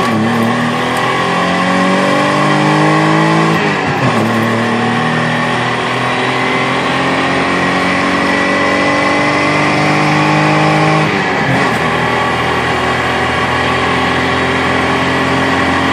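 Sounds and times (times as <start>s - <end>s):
car engine accelerating: 0.0s - 15.9s.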